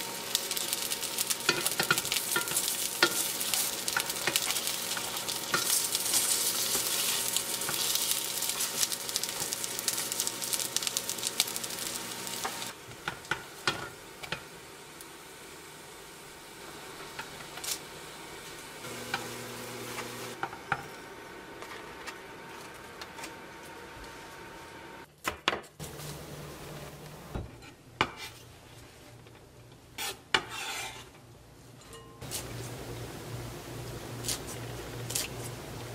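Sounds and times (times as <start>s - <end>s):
dumplings sizzling in oil: 0.0s - 25.1s, 32.2s - 35.9s.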